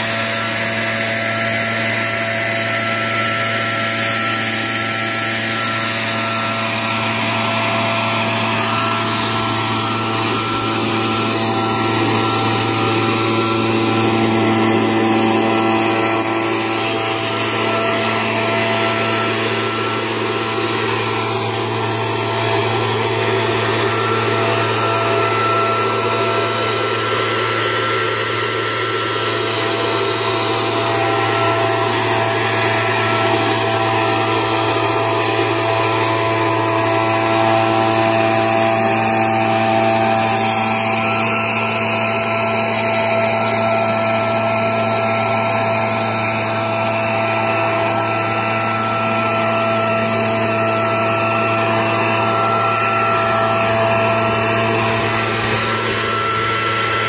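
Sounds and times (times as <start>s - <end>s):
mist-blower engine drone: 0.0s - 57.0s
rush of air from blower: 0.0s - 57.0s.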